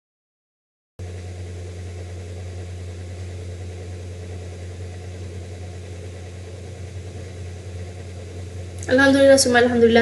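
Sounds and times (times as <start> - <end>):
steady low hum: 1.0 - 10.0.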